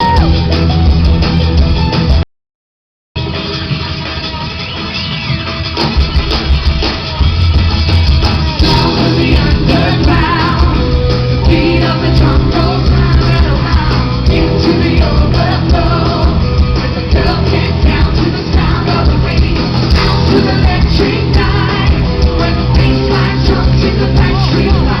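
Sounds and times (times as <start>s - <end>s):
live pop-rock band with singing: 0.0s - 2.0s, 3.3s - 25.0s.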